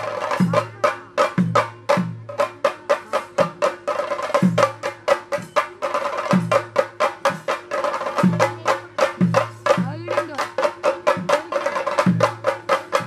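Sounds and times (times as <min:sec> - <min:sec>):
drums beaten with sticks: 0:00.0 - 0:13.0.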